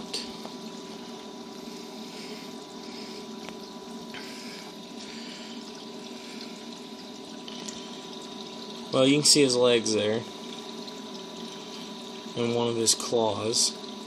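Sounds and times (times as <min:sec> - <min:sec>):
aquarium pumps humming: 0:00.0 - 0:14.0
circulating water washing: 0:00.0 - 0:14.0.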